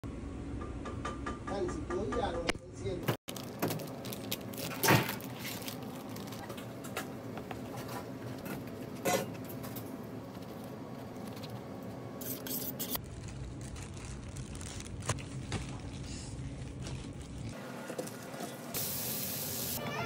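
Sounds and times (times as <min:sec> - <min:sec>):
background hum: 0:00.1 - 0:18.7.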